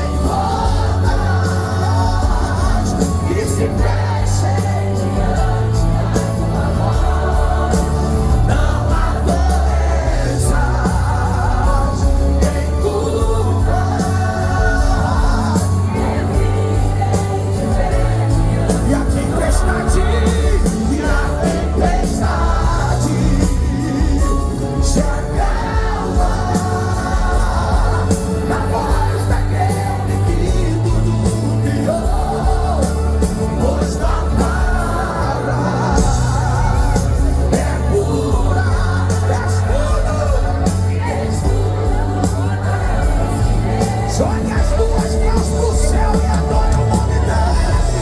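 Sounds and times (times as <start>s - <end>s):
live band playing: 0.0s - 48.0s
person singing: 0.0s - 48.0s.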